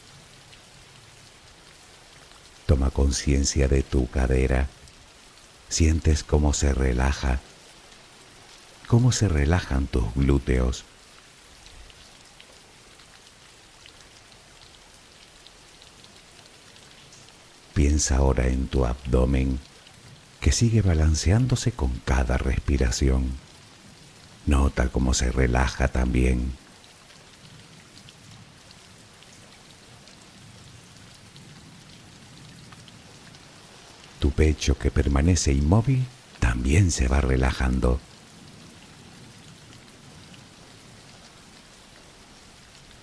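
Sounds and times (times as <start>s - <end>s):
faint raindrop ticks: 0.0s - 43.0s
soft steady rain: 0.0s - 43.0s.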